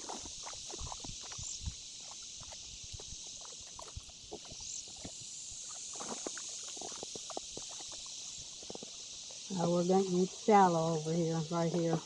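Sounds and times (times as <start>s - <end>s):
hiss of moving water: 0.0s - 12.0s.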